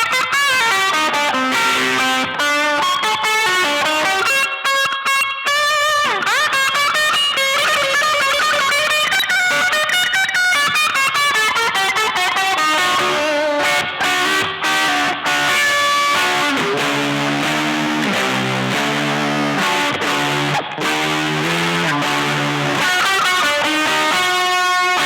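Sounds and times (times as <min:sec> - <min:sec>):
distorted electric guitar: 0:00.0 - 0:25.0.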